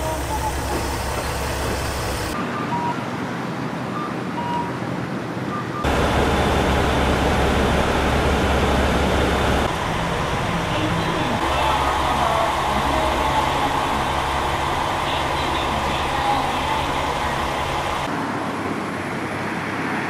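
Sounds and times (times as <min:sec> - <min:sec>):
diesel railcar engine rumble: 0:00.0 - 0:02.4, 0:03.4 - 0:18.3
street traffic: 0:00.0 - 0:20.0.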